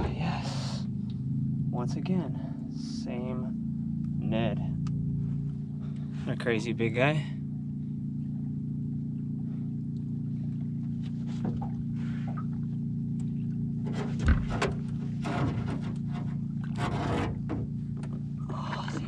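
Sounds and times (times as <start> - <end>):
boat motor idling: 0.0 - 19.0.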